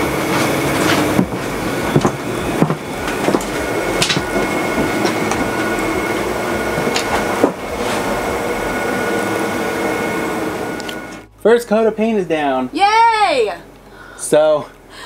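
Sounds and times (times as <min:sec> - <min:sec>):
machine whining steadily: 0:00.0 - 0:15.0.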